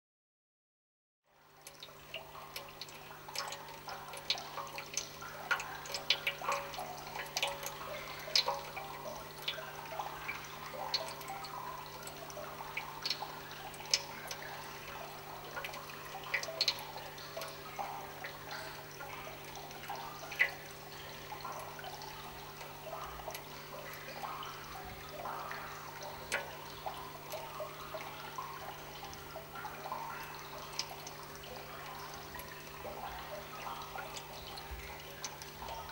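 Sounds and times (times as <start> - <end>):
drip-like clicks: 1.5 - 35.9.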